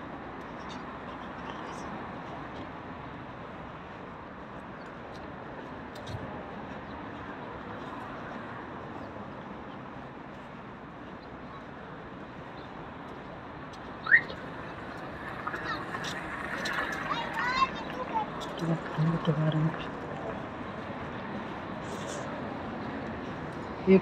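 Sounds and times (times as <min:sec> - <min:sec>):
traffic and car park noise: 0:00.0 - 0:24.0.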